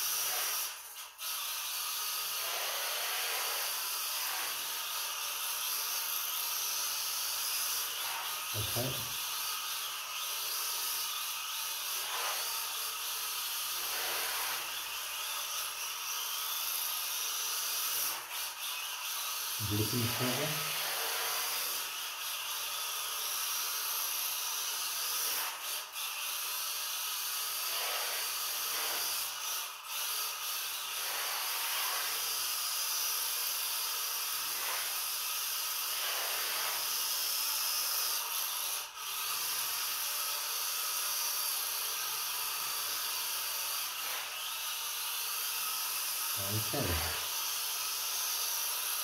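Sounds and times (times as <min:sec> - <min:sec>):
toy car electric motor whirring: 0:00.0 - 0:49.0.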